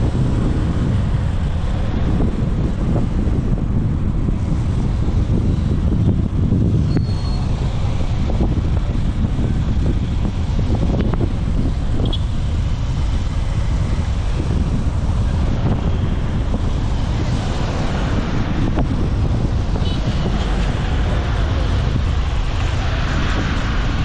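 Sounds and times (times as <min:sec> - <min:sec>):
motorcycle rumble: 0:00.0 - 0:24.0
road traffic: 0:00.0 - 0:24.0
wind rushing over microphone: 0:00.0 - 0:24.0.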